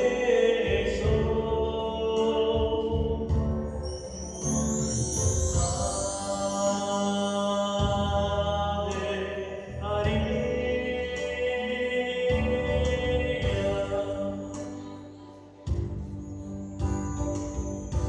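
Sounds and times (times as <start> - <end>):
electronic keyboard chords: 0.0 - 18.0.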